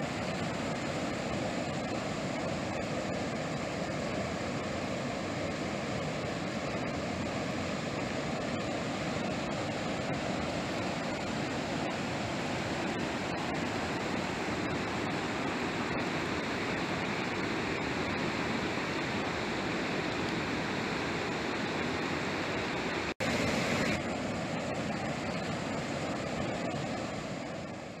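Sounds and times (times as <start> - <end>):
river rushing over cascade: 0.0 - 28.0.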